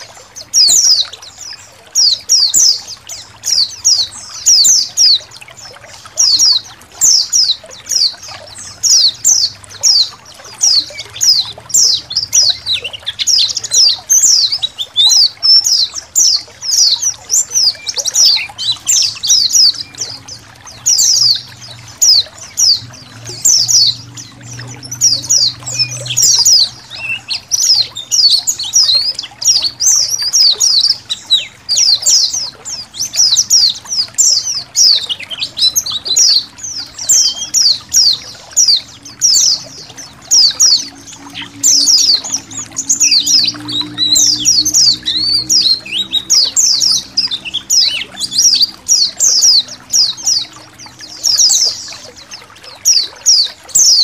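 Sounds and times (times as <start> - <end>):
faint trickling water: 0.0 - 54.0
many birds chirping: 0.0 - 54.0.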